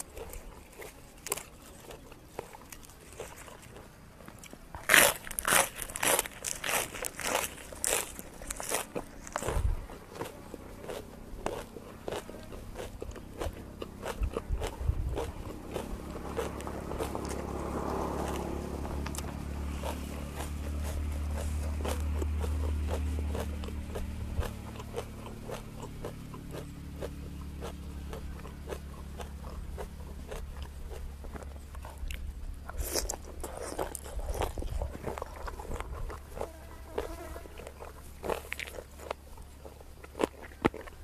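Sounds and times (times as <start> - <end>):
chewing and crunching: 0.0 - 41.0.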